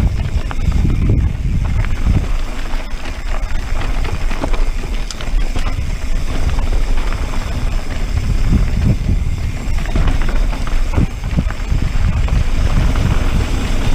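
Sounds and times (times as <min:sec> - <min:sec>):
bike clattering over bumps: 0:00.0 - 0:13.9
bike tyres crunching on gravel: 0:00.0 - 0:13.9
wind rumbling on microphone: 0:00.0 - 0:13.9.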